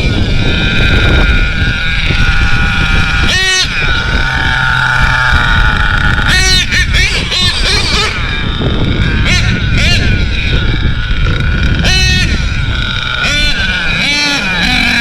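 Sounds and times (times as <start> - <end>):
rc truck engine whining: 0.0 - 15.0
wind on microphone: 0.0 - 15.0.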